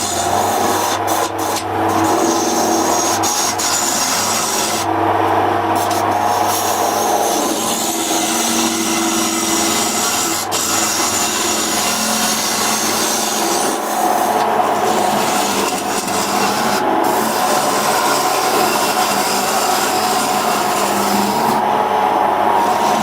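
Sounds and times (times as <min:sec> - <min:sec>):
faint motor hum: 0:00.0 - 0:23.0
power tool cutting wood: 0:00.0 - 0:23.0.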